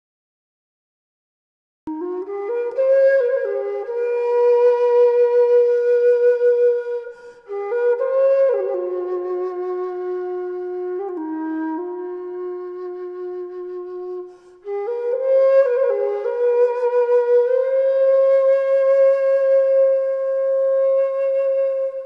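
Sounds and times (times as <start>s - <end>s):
slow flute melody: 1.9s - 22.0s.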